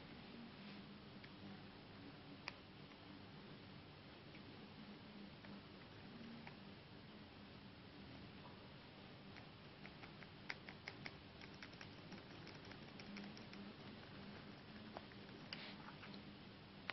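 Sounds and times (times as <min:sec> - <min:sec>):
low hiss: 0:00.0 - 0:16.9.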